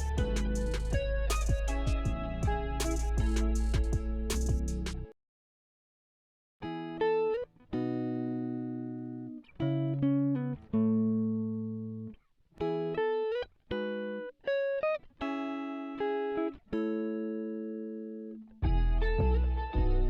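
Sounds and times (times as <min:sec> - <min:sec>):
clean guitar playing chords: 0:00.0 - 0:05.1, 0:06.6 - 0:20.0.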